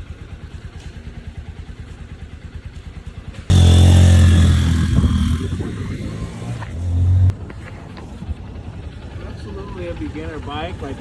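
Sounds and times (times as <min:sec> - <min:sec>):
dirt bike engine idling and revving: 0:00.0 - 0:11.0.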